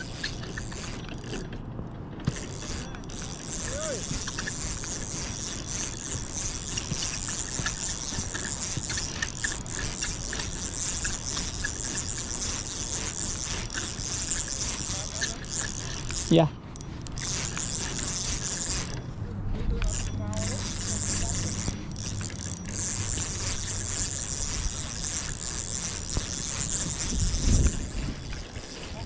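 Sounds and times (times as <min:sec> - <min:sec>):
fishing reel ratchet whirring: 0:00.0 - 0:01.6, 0:02.2 - 0:29.0.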